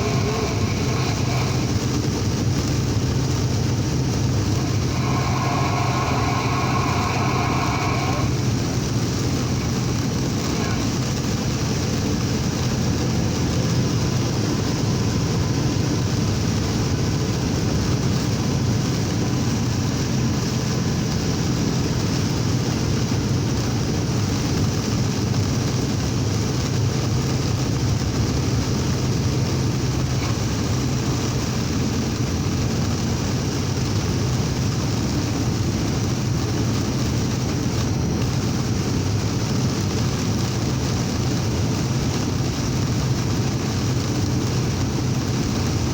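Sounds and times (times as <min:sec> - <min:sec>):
truck diesel engine droning: 0:00.0 - 0:45.9
tyre and rain noise on wet road: 0:00.0 - 0:45.9.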